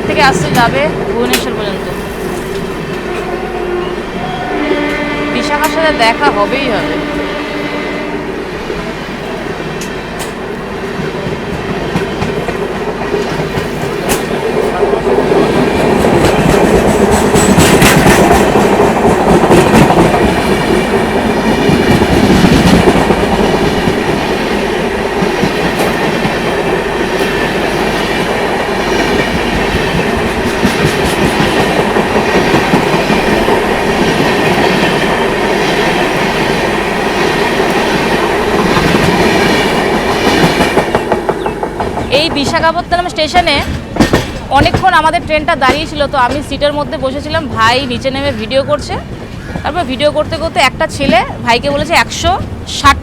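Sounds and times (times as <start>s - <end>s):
train rumbling: 0.0s - 53.0s
wheels clacking over rail joints: 9.7s - 52.7s.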